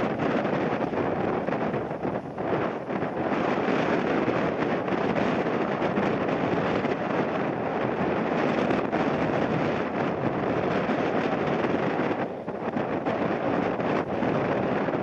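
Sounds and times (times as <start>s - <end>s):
jet airliner engine noise: 0.0s - 15.0s
wind buffeting microphone: 0.0s - 15.0s.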